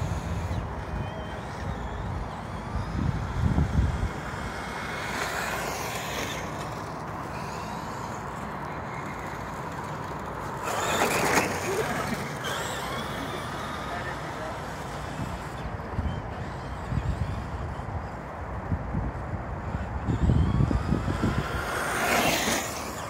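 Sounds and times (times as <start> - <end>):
low uneven vehicle rumble: 0.0 - 23.0.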